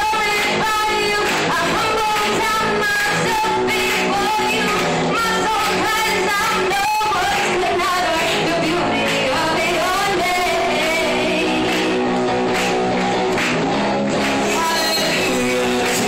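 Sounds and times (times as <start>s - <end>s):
woman singing into a microphone: 0.0s - 12.0s, 14.4s - 16.0s.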